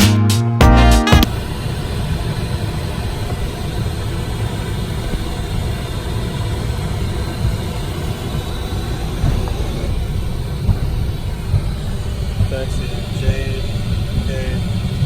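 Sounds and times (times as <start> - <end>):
faint whine tones: 1.2 - 15.0
jet idling low rumble: 1.2 - 15.0.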